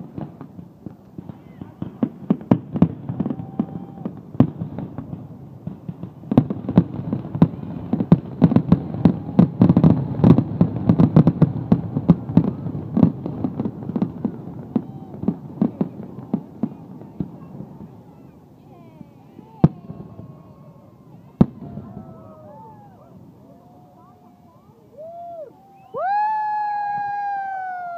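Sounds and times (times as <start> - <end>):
fireworks bursting: 0.0 - 27.9.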